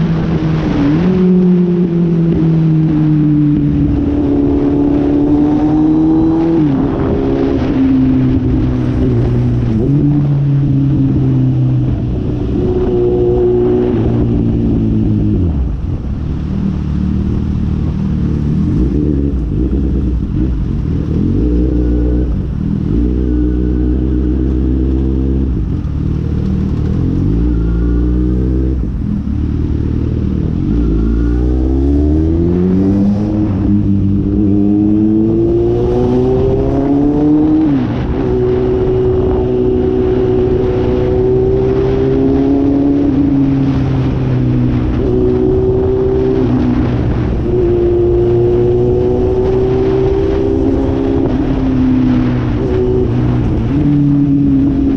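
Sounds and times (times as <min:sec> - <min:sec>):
motorcycle engine accelerating: 0:00.0 - 0:54.9
wind noise on microphone: 0:00.0 - 0:54.9.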